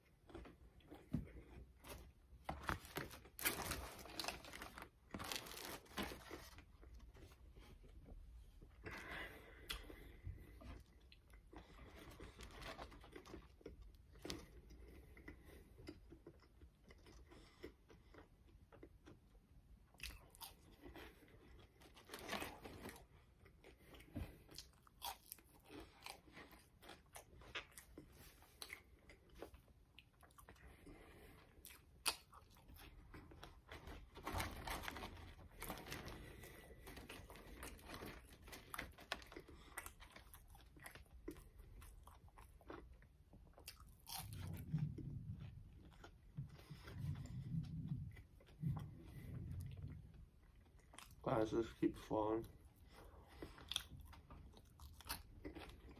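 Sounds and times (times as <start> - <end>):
crunching french fries: 0.0 - 7.0, 10.7 - 47.0, 53.2 - 55.9.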